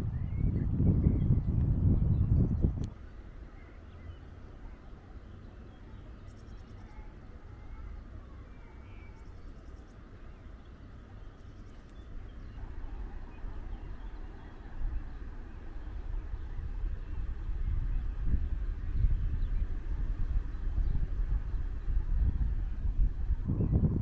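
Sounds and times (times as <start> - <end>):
low wind rumble: 0.0 - 24.0.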